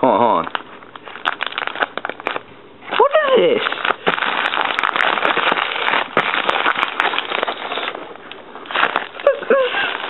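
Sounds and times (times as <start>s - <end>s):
bubble wrap crinkling: 0.0s - 10.0s.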